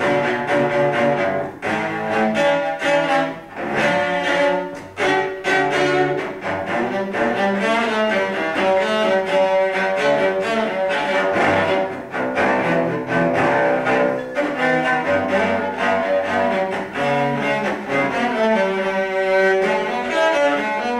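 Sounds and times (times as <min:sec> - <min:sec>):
bowed cello: 0:00.0 - 0:20.9.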